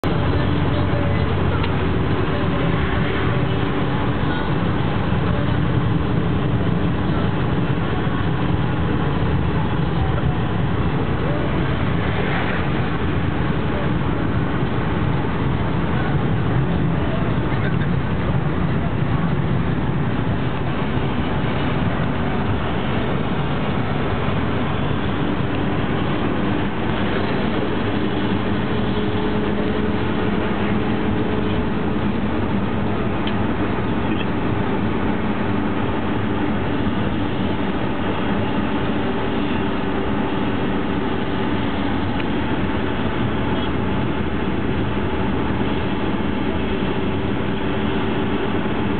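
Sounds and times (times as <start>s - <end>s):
tyre noise on wet road: 0.0s - 48.9s
vehicle engine drone: 0.0s - 48.9s.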